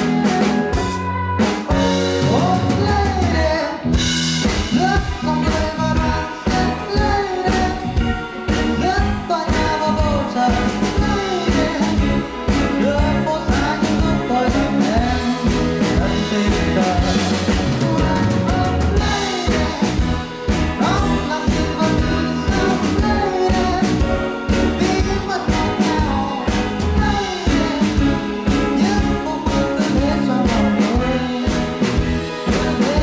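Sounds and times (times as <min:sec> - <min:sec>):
bass guitar: 0:00.0 - 0:33.0
drum kit beat: 0:00.0 - 0:33.0
electric guitar: 0:00.0 - 0:33.0
man singing: 0:00.0 - 0:33.0.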